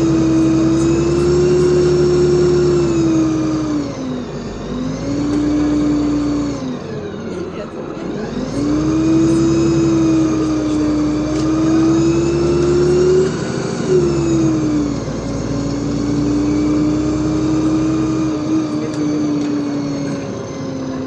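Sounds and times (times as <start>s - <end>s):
bus drivetrain whine: 0.0s - 21.0s
low road rumble: 0.0s - 21.0s.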